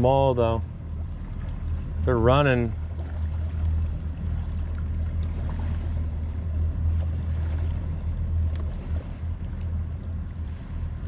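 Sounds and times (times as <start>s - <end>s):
outboard engines idling: 0.0s - 11.0s.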